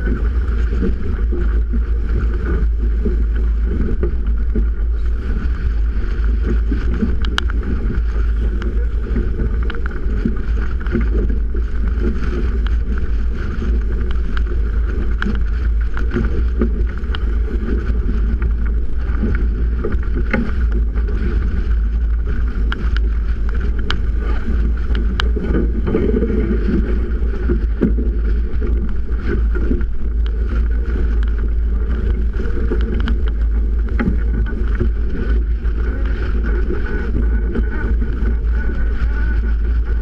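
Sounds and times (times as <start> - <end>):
rush of wind and water: 0.0 - 40.0
wind buffeting microphone: 0.0 - 40.0.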